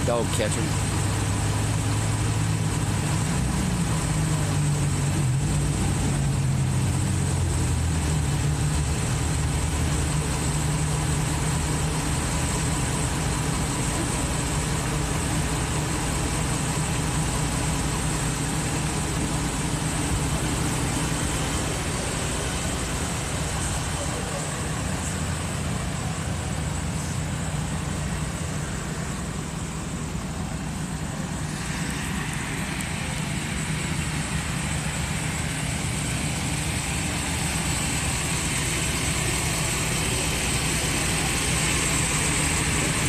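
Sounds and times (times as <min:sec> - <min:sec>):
vehicle engine idling: 0:00.0 - 0:43.0.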